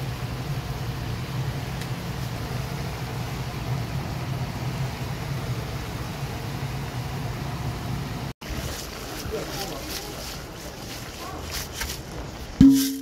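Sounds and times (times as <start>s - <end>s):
fire roaring: 0.0s - 12.6s.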